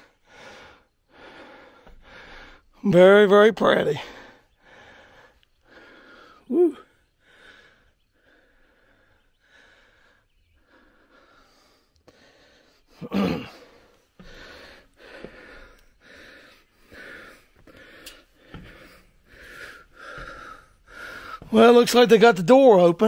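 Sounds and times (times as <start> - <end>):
man breathing hard: 0.0 - 2.8, 3.9 - 21.6.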